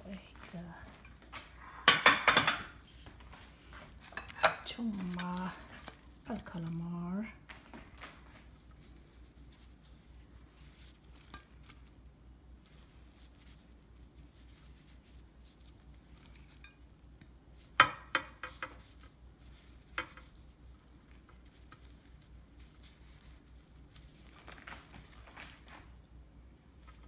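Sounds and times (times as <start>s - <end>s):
gloved hand arranging food: 0.1s - 27.0s.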